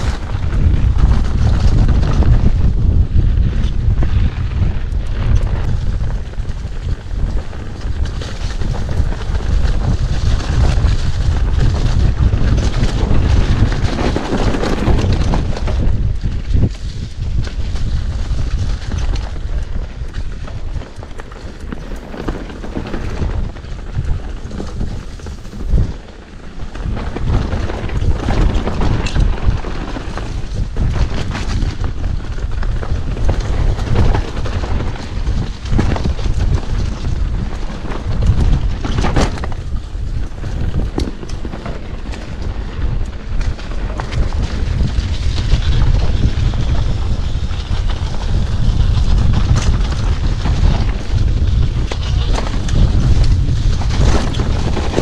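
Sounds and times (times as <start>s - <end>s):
bike knocks and rattles: 0.0s - 55.0s
wind buffeting microphone: 0.0s - 55.0s.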